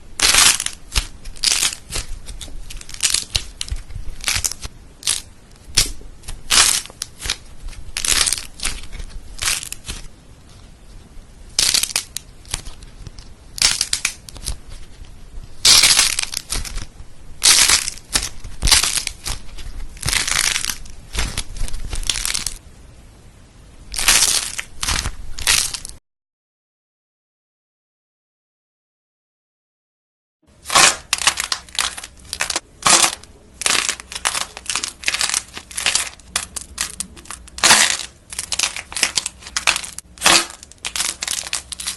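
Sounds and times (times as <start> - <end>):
slime squeezed by hand crackling: 0.2 - 10.1, 11.5 - 22.6, 23.9 - 26.0, 30.6 - 41.9.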